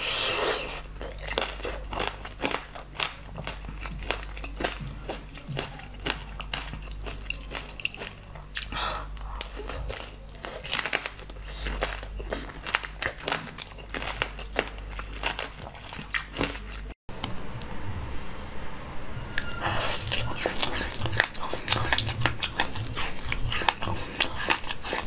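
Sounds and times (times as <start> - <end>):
crisp crunching and chewing: 0.0 - 17.0, 19.3 - 25.0
steady low hum: 0.0 - 25.0.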